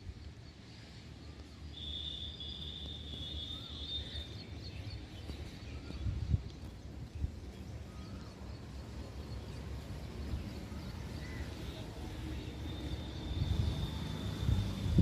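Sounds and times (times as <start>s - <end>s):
faint high chirping: 0.8s - 15.0s.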